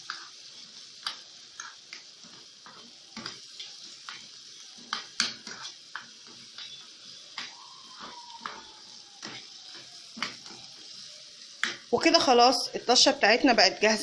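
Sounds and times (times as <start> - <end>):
food sizzling in butter: 0.0 - 14.0.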